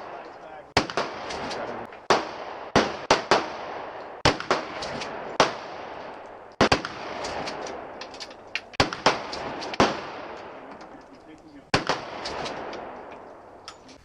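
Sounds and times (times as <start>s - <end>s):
gunshots with short echo: 0.0s - 11.0s, 11.7s - 13.3s.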